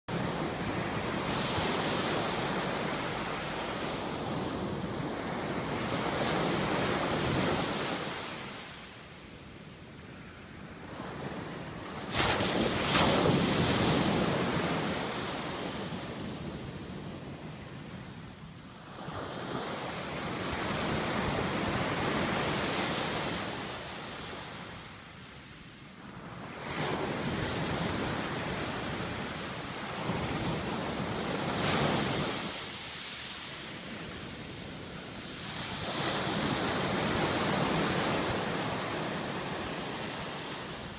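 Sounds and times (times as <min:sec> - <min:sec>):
waves breaking on shore: 0:00.1 - 0:09.0, 0:10.1 - 0:25.1, 0:26.1 - 0:40.9.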